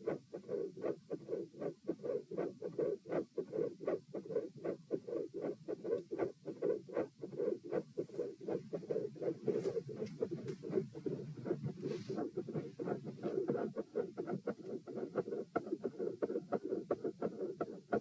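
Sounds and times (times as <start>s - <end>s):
heartbeat through stethoscope: 0.0s - 18.0s.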